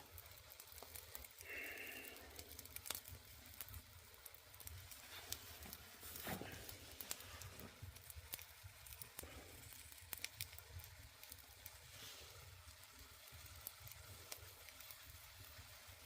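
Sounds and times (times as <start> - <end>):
faint wood fire crackling: 0.0 - 16.0.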